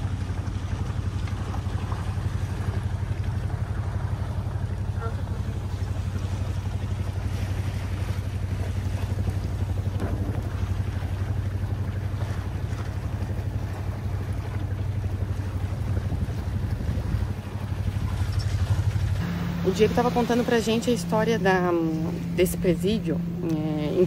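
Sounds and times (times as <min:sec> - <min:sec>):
boat engine running: 0:00.0 - 0:24.0
wind buffeting microphone: 0:00.0 - 0:24.0.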